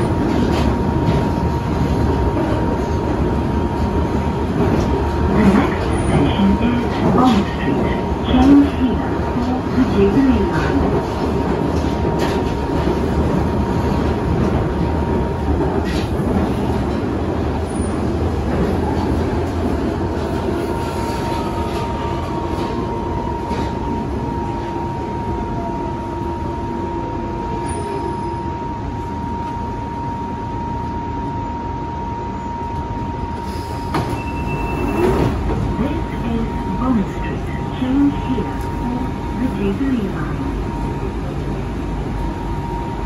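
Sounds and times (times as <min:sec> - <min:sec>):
train rumble and whine: 0:00.0 - 0:43.0.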